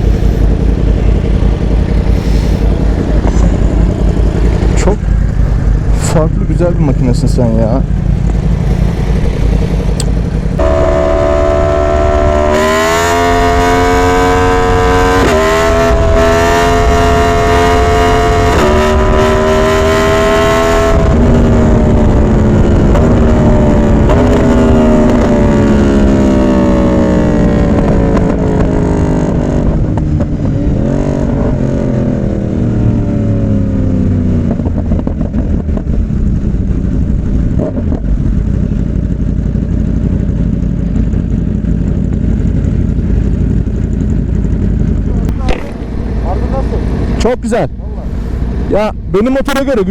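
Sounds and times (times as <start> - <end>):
motorcycle engine pulling hard: 0.0 - 49.9
rushing wind: 0.0 - 49.9.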